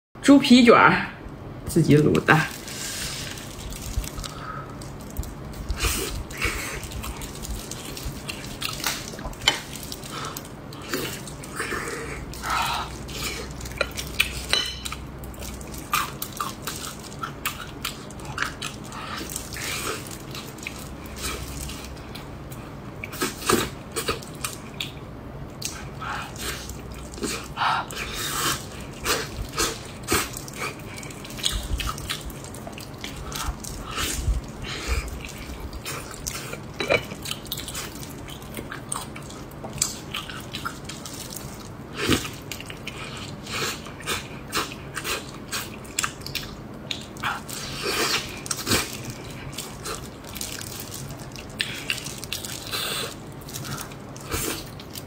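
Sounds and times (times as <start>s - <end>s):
wet chewing: 2.5s - 55.0s.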